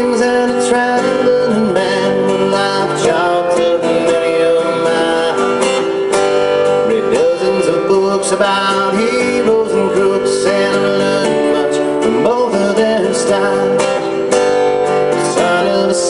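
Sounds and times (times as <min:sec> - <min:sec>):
band backing: 0:00.0 - 0:16.0
man singing: 0:00.0 - 0:16.0
strummed acoustic guitar: 0:00.0 - 0:16.0.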